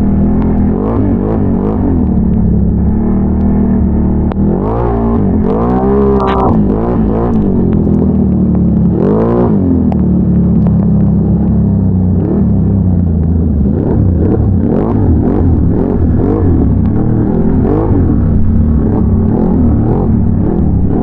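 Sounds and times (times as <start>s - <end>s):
atv engine revving: 0.0s - 13.0s, 13.6s - 21.0s.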